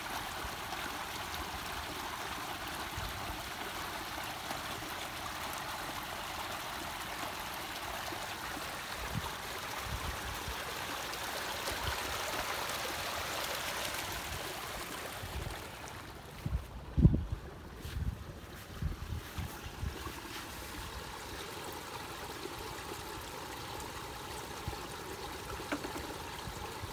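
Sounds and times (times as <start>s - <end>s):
water rushing from culvert: 0.0s - 26.9s.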